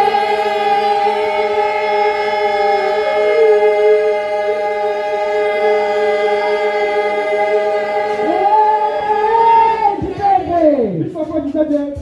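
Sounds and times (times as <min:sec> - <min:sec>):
choir singing a held chord: 0:00.0 - 0:10.6.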